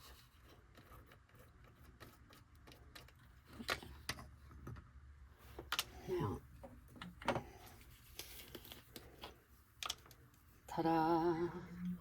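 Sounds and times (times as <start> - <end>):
faint rustling of craft items: 0.0 - 12.0.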